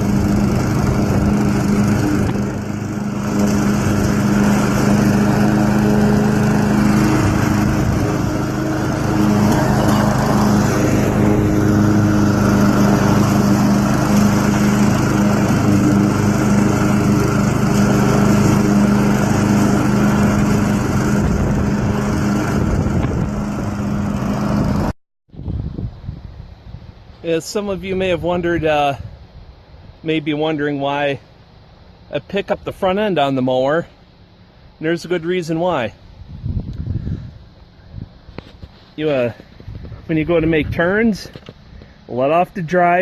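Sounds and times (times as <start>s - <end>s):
lawn mower engine running: 0.0s - 24.9s, 26.4s - 36.2s, 37.0s - 43.0s.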